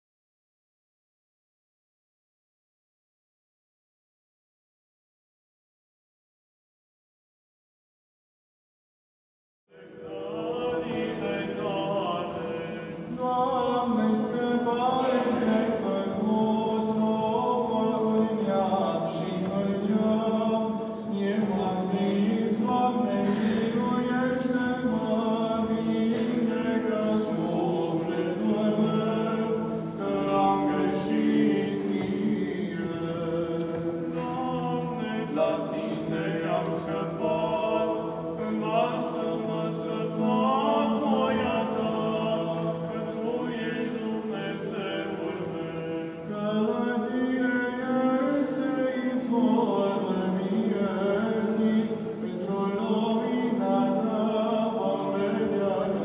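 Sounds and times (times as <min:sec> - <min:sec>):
voices chanting unaccompanied: 0:09.8 - 0:56.0.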